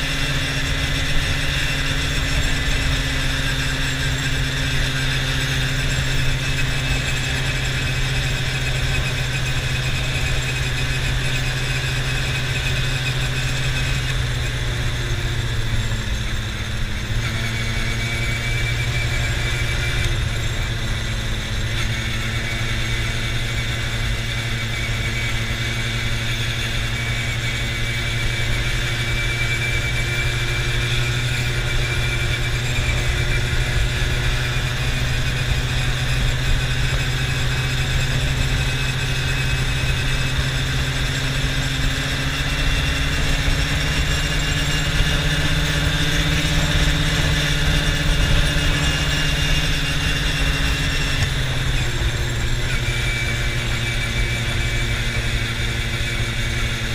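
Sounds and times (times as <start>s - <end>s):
quad bike engine: 0.0s - 56.9s
road noise: 0.0s - 56.9s.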